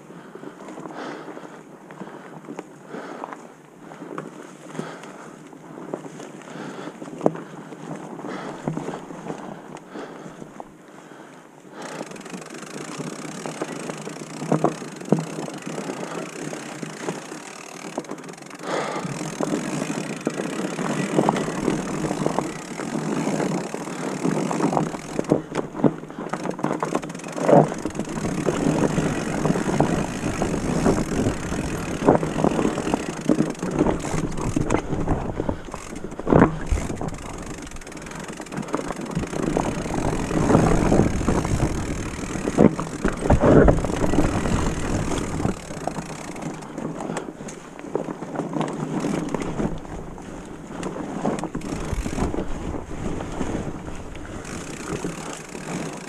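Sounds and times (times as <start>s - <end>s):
bike tyre noise on trail: 0.0s - 56.0s
bike knocking and rattling: 0.4s - 56.0s.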